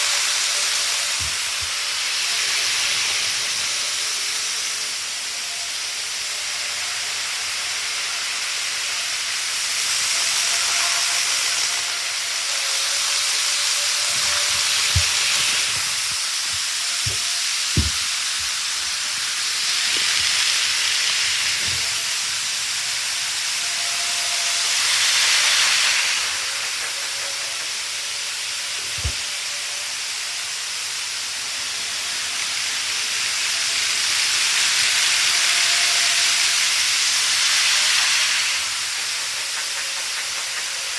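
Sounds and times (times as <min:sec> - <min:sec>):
model train rumbling on track: 0:00.0 - 0:40.9.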